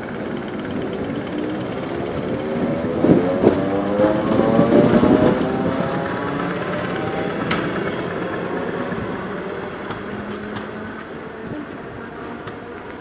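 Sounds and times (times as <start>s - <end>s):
electric train motor whine: 0.0s - 13.0s
train wheels clattering on rails: 0.0s - 13.0s.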